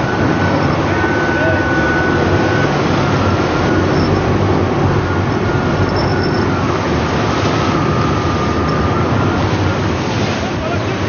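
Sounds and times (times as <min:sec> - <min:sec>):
boat engine humming: 0:00.0 - 0:11.0
rough sea wash: 0:00.0 - 0:11.0
wind: 0:00.0 - 0:11.0.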